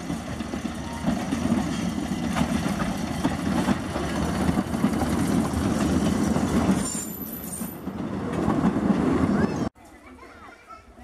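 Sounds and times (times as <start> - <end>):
diesel locomotive running: 0.0 - 9.7
wheels rolling on track: 0.0 - 9.7.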